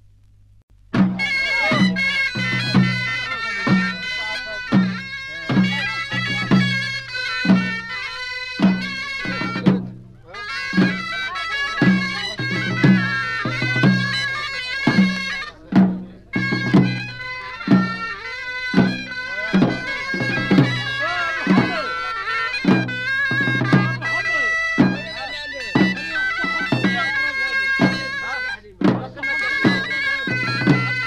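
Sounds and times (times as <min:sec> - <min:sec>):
drum strokes: 0:00.9 - 0:31.0
reedy wind instrument melody: 0:00.9 - 0:31.0.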